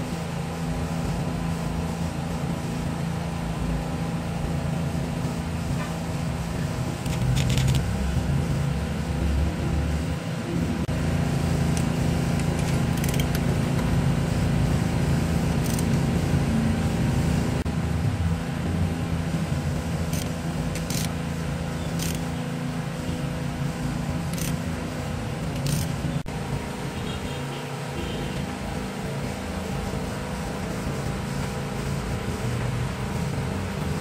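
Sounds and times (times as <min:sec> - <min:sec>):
low mechanical hum: 0:00.0 - 0:34.0.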